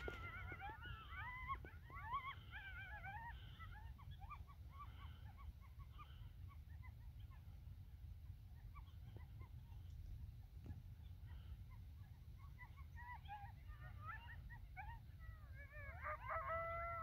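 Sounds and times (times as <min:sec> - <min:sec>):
coyotes yipping and howling: 0:00.0 - 0:17.0.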